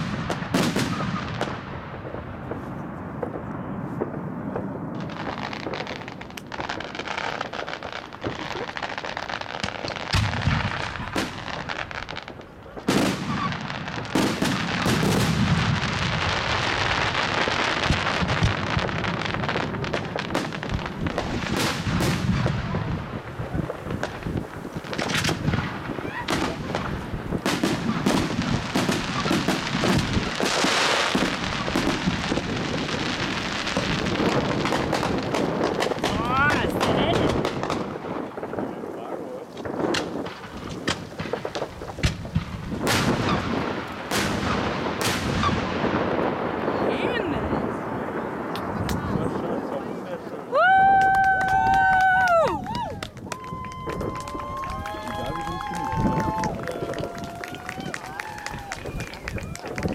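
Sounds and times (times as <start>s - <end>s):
firework bangs: 0.0s - 59.9s
fireworks crackling: 0.0s - 59.9s.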